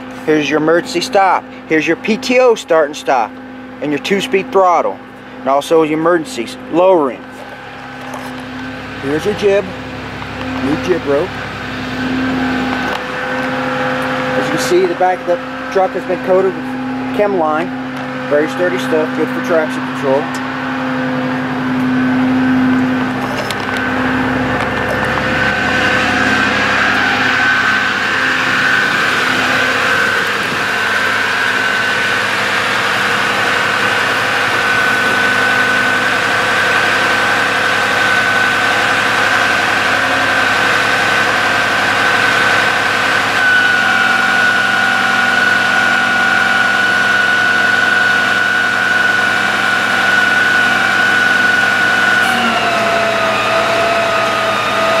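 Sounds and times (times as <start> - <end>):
hydraulic pump whine: 0.0 - 55.0
truck engine idling: 0.0 - 55.0.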